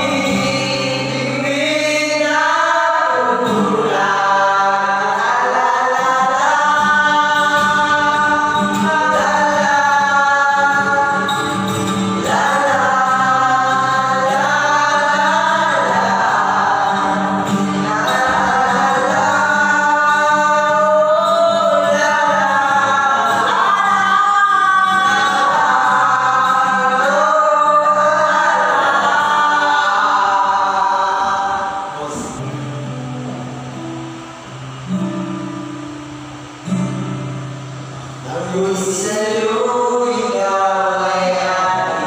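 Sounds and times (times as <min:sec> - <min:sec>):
male voices singing in harmony: 0:00.0 - 0:32.6, 0:38.2 - 0:42.0
acoustic guitar strumming: 0:00.0 - 0:42.0.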